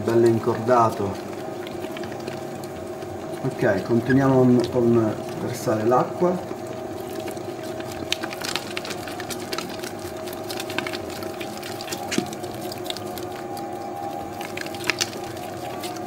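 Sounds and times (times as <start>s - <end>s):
dough mixer motor humming: 0.0s - 16.0s.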